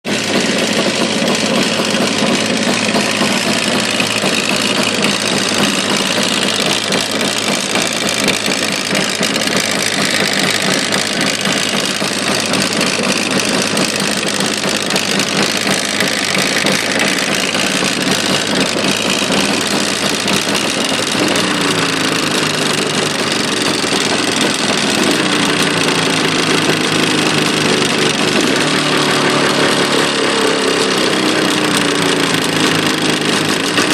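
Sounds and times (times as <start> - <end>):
engine knocking: 0.0 - 33.9
motorcycle engine running: 0.0 - 33.9.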